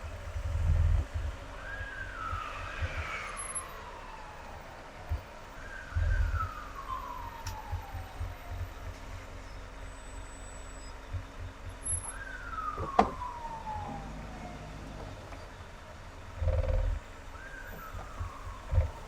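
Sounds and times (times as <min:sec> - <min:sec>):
car road noise rumble: 0:00.0 - 0:19.0
emergency siren wailing: 0:00.0 - 0:19.0.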